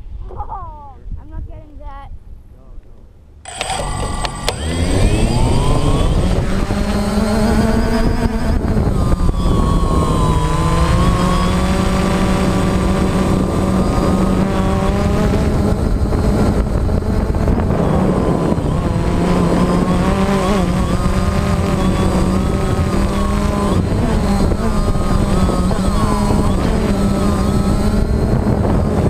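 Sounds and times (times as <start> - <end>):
drone motors and propellers buzzing: 3.4 - 29.0.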